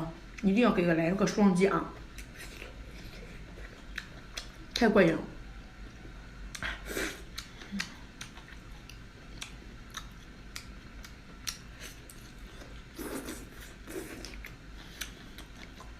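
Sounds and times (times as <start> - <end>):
person chewing food: 2.0 - 4.8, 5.8 - 15.9.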